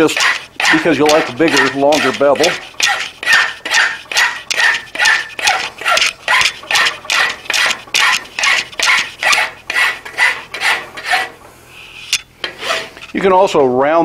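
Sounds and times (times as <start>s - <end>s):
hand file rasping on steel: 0.0s - 11.4s, 12.0s - 13.0s.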